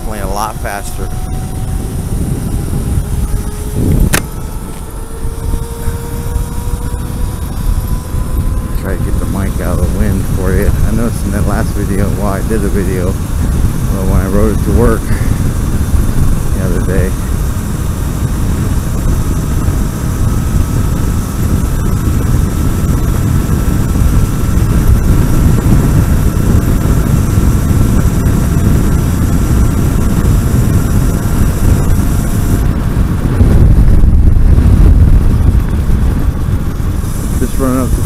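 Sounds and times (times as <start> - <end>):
faint electric motor whine: 0.0 - 38.0
wind buffeting microphone: 0.0 - 38.0.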